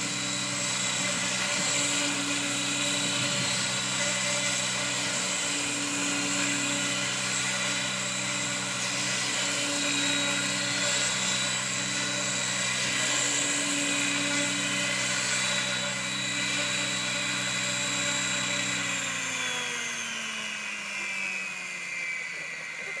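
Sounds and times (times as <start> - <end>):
rc helicopter rotor whine: 0.0 - 23.0.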